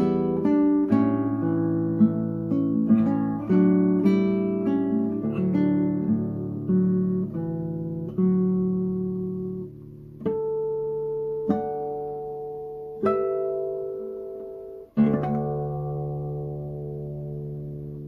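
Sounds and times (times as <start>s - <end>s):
classical guitar plucked chords: 0.0s - 18.0s.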